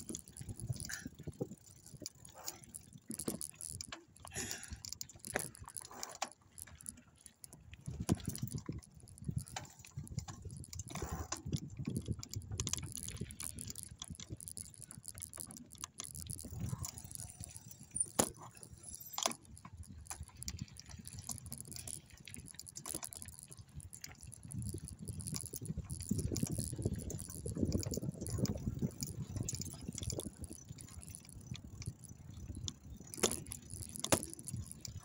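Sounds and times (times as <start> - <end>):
bike clicks and rattles: 0.0 - 35.0.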